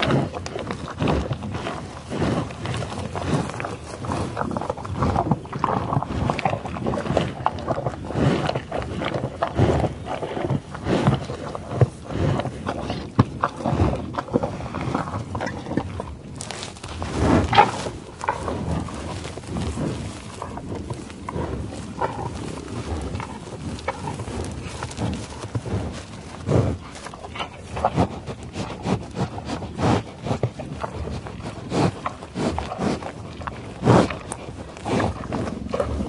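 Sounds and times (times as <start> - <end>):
grass rustling and tearing: 0.0 - 12.0, 12.9 - 36.0
animal sniffing: 0.0 - 36.0.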